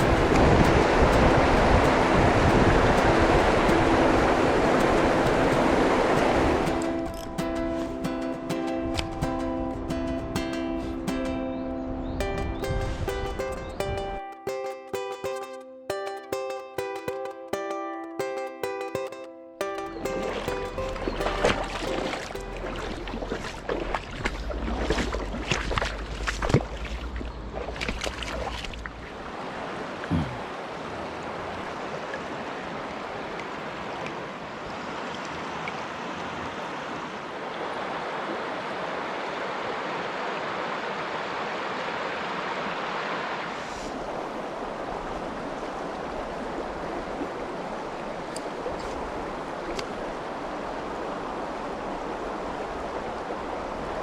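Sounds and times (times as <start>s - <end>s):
stream running over rocks: 0.0s - 15.6s, 16.3s - 54.0s.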